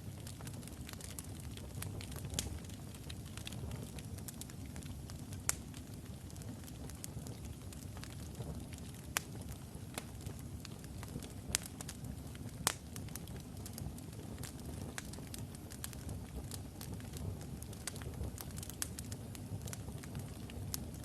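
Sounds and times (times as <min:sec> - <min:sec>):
fire crackling and popping: 0:00.0 - 0:21.0
low rumble of flame: 0:00.0 - 0:21.0.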